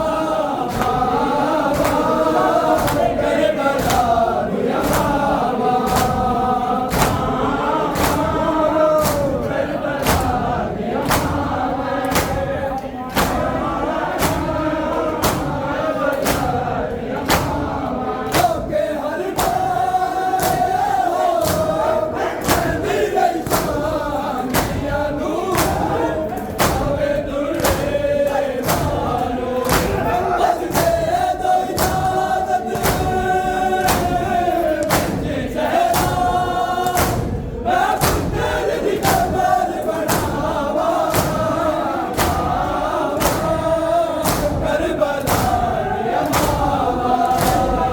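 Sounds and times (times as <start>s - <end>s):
men chanting in unison: 0.0s - 47.9s
rhythmic chest-beating slaps: 0.0s - 47.9s.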